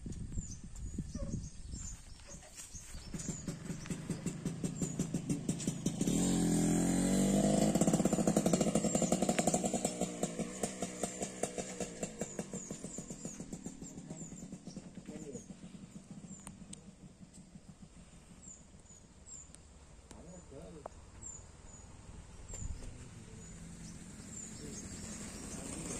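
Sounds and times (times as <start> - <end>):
vehicle engine passing by: 2.8 - 25.9.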